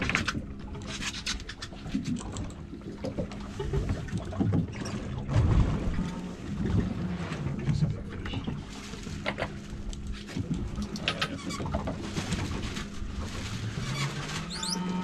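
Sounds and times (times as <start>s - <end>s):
water noise: 0.0s - 15.0s
boat motor humming: 1.9s - 15.0s.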